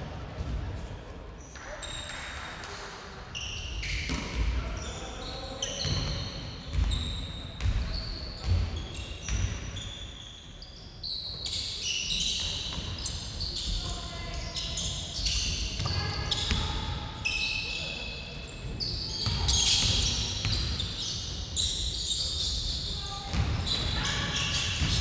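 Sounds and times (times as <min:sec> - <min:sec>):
sneakers squeaking on floor: 0:01.4 - 0:02.3, 0:03.3 - 0:25.0.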